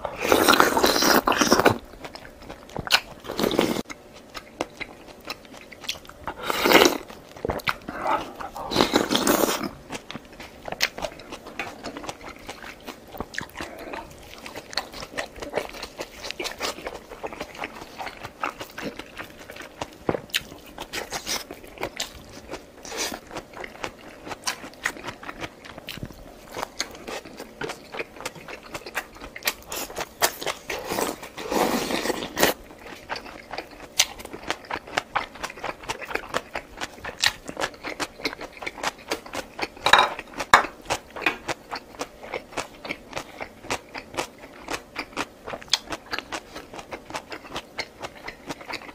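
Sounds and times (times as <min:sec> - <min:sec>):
wet chewing: 0:00.1 - 0:48.9.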